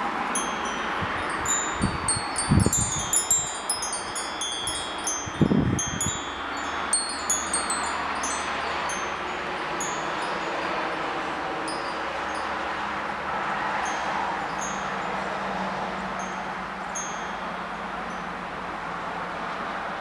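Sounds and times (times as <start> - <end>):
wind rumble on microphone: 0.0 - 20.0
wind chimes tinkling: 0.1 - 12.7, 13.8 - 18.7.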